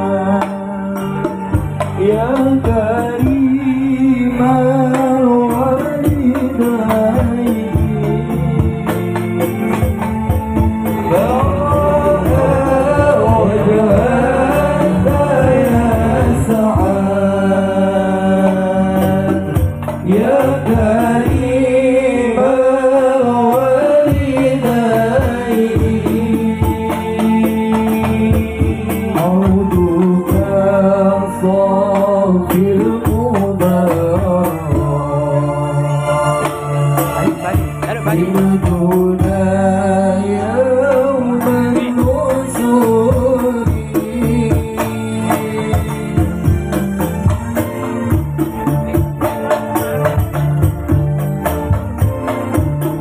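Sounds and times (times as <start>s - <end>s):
musical accompaniment: 0.0s - 53.0s.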